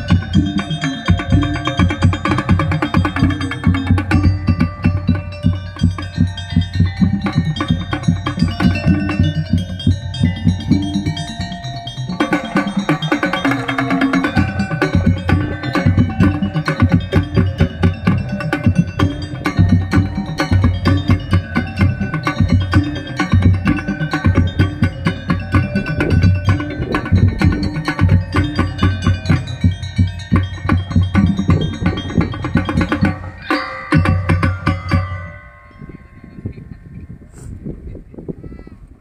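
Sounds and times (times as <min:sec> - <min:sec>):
drums beating a steady rhythm: 0:00.0 - 0:36.9
mallet percussion tones: 0:00.0 - 0:37.3.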